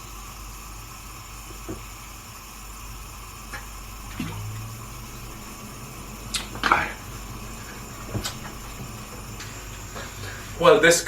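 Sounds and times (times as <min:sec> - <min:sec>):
pot simmering with soft pops: 0:00.0 - 0:11.0.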